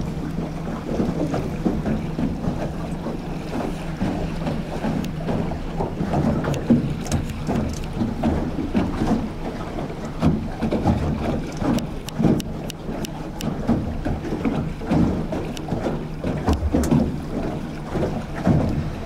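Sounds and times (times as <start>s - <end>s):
outboard motor humming: 0.0s - 19.0s
water slapping against hull: 0.0s - 19.0s
wind buffeting microphone: 0.0s - 19.0s.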